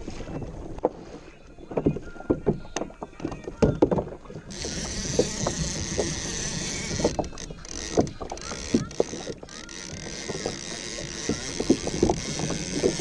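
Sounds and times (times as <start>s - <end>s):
knocks and clicks from boat gear: 0.0s - 13.0s
water slapping against kayak hull: 0.0s - 13.0s.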